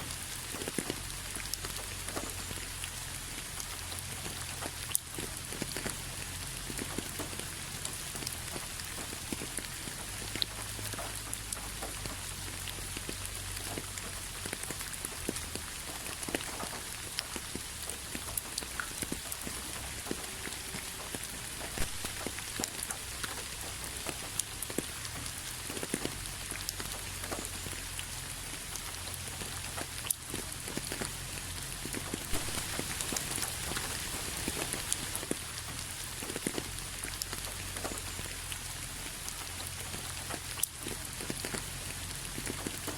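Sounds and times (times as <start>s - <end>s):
rain drops ticking: 0.0s - 42.9s.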